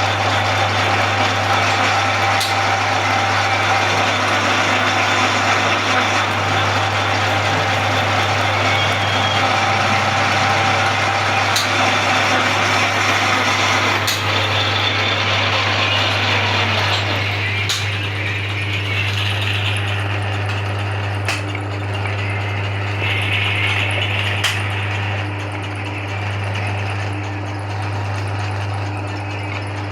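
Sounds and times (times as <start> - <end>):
lathe motor hum with gears: 0.0 - 29.9.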